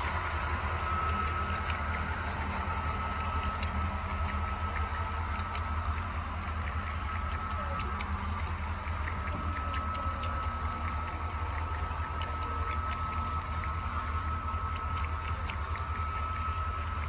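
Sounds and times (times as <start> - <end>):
model train motor whine: 0.0 - 17.0
wheels clicking over rail joints: 0.0 - 17.0.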